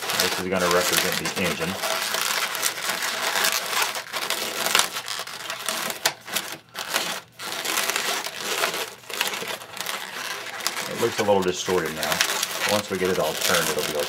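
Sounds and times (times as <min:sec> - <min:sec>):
balloons squeaking and rubbing: 0:00.0 - 0:14.0.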